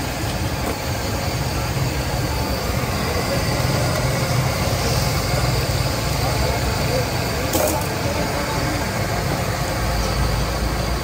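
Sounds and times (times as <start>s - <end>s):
faint voices: 0.5s - 11.0s.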